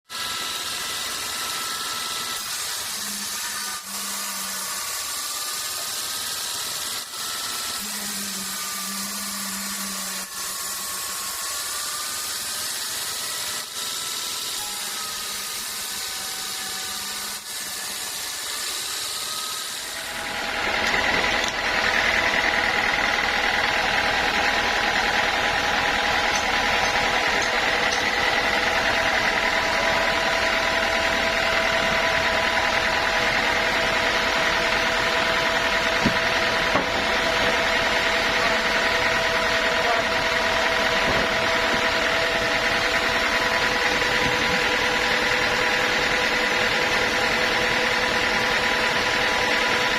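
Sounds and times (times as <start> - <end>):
sawmill machinery whining: 0.1 - 49.9.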